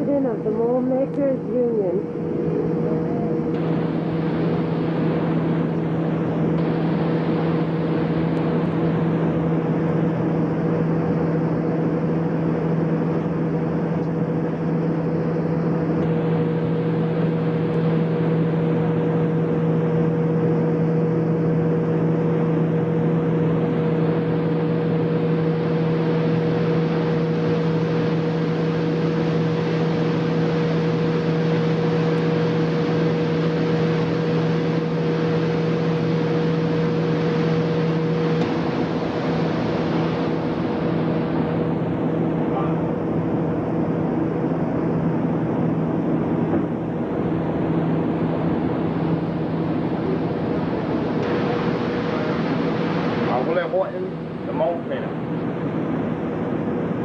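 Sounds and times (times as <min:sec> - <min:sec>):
industrial machinery drone: 0:00.0 - 0:57.0.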